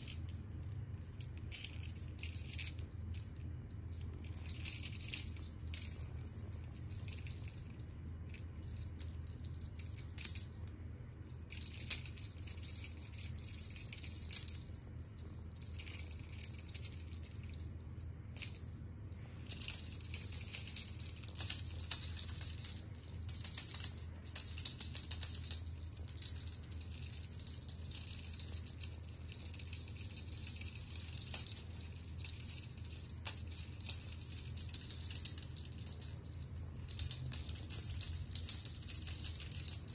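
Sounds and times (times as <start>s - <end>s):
cat toy jingling: 0.0s - 10.7s, 11.3s - 39.9s.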